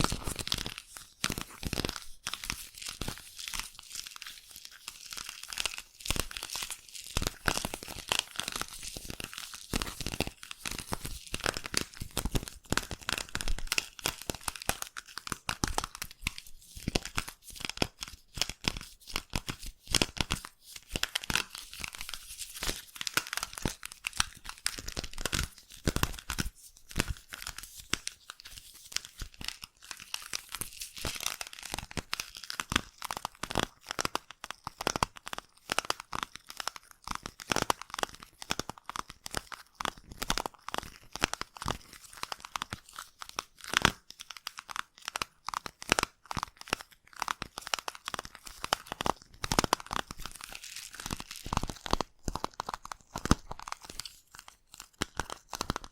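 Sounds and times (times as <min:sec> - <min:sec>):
slime squishing crackles: 0:00.0 - 0:55.9.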